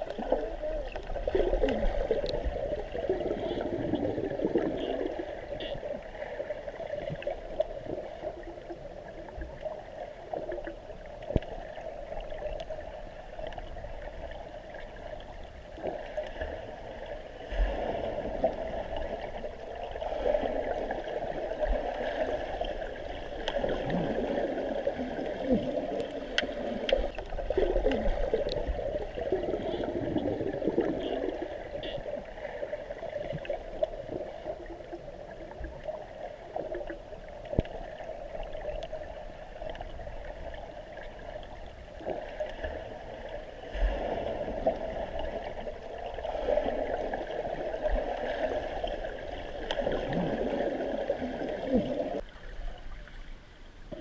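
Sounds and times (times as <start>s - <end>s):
water gurgling and bubbling: 0.0s - 53.2s.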